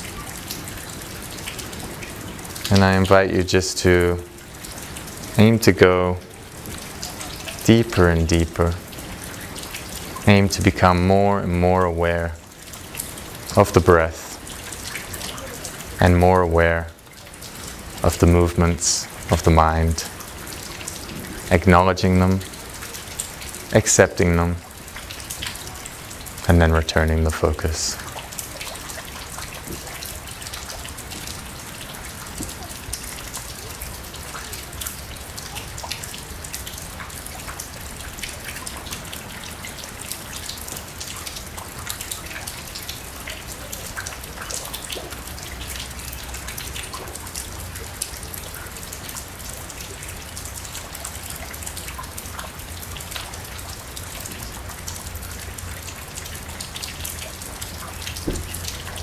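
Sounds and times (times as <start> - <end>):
drops ticking close by: 0.0 - 59.0
rain falling: 0.0 - 59.0.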